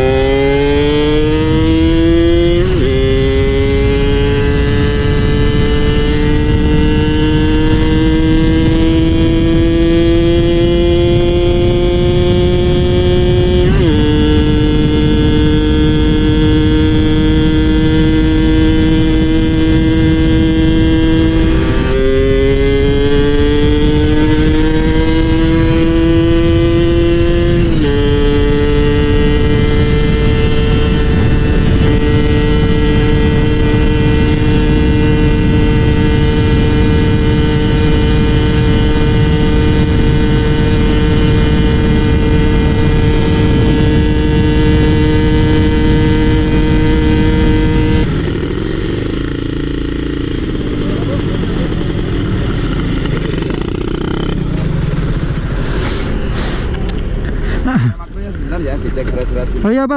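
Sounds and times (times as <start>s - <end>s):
two-stroke motorcycle engine: 0.0s - 59.9s.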